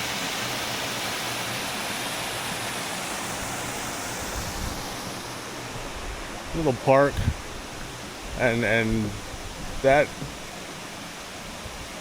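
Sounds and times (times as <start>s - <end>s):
creek rushing over rock: 0.0s - 12.0s.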